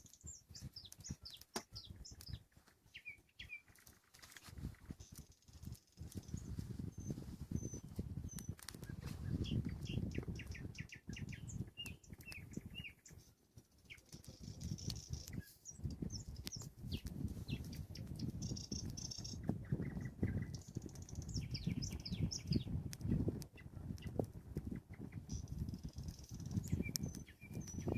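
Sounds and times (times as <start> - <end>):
nightingale singing: 0.0 - 3.8, 6.2 - 22.8, 24.9 - 27.9
low crackling noise: 0.0 - 27.9.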